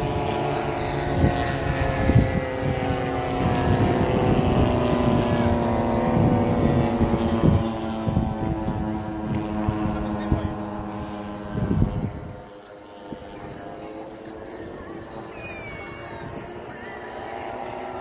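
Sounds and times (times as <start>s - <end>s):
model aircraft engine running: 0.0s - 18.0s.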